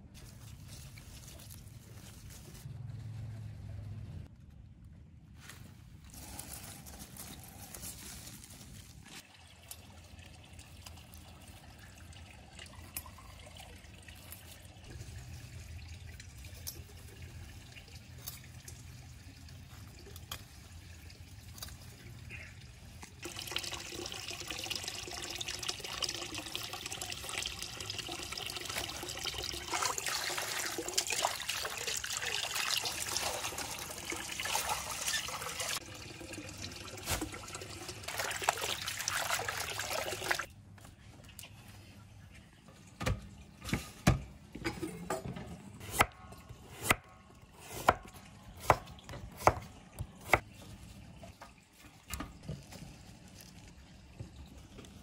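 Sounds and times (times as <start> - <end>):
water splashing and trickling: 0.0 - 3.2, 6.1 - 55.0.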